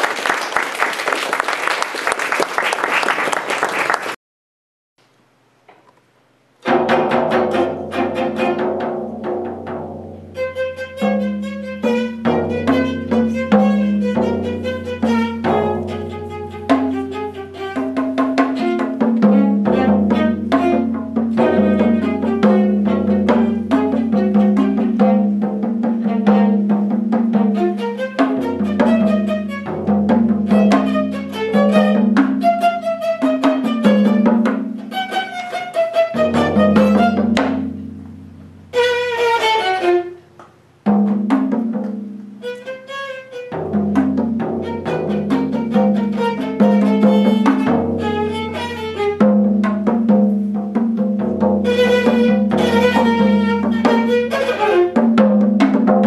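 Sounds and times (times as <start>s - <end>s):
rapid drum strokes: 6.6s - 40.1s, 40.8s - 56.0s
bowed viola: 6.6s - 40.3s, 42.4s - 50.0s, 51.4s - 56.0s.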